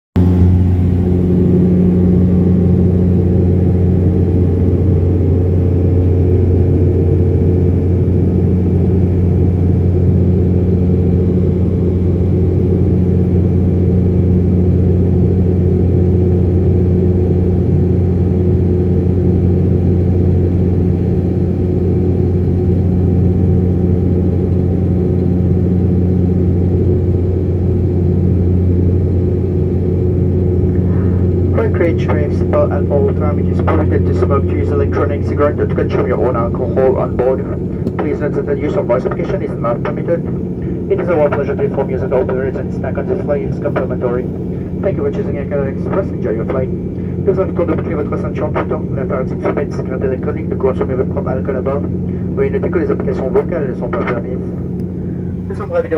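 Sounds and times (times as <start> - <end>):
loud propeller drone: 0.1 - 55.9
engine and air noise: 0.2 - 55.9.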